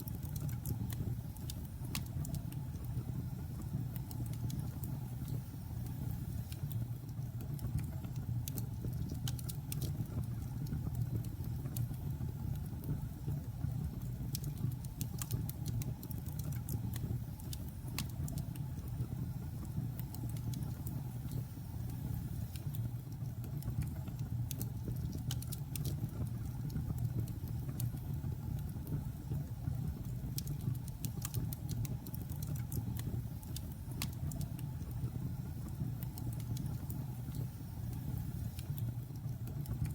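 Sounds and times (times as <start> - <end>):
wood crackling and popping: 0.1 - 3.0, 3.6 - 13.0, 13.6 - 19.0, 22.5 - 29.2, 29.9 - 39.9.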